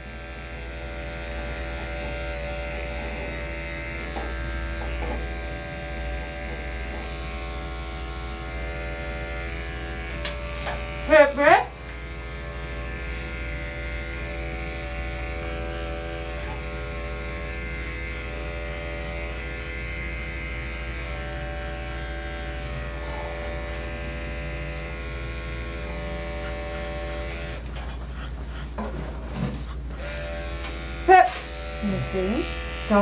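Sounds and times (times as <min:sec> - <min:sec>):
electric clipper humming: 0:00.0 - 0:28.1, 0:28.7 - 0:33.0.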